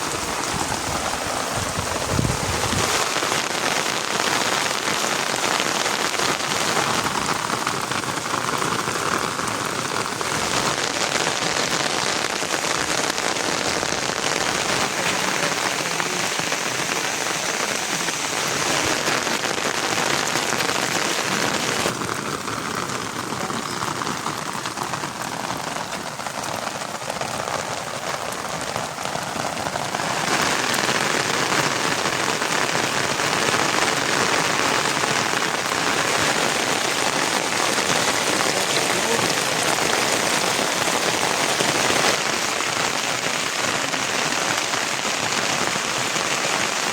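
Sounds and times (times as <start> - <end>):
rain pattering on surfaces: 0.0 - 46.9.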